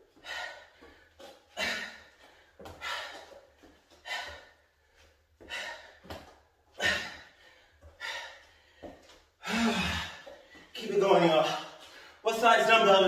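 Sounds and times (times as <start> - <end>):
man breathing hard: 0.0 - 10.8.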